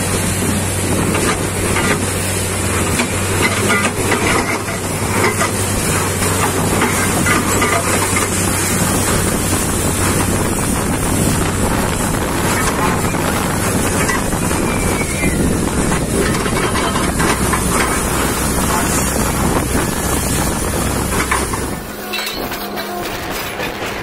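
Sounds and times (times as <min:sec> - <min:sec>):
low engine hum: 0:00.0 - 0:24.0
water gushing and splashing: 0:00.0 - 0:24.0.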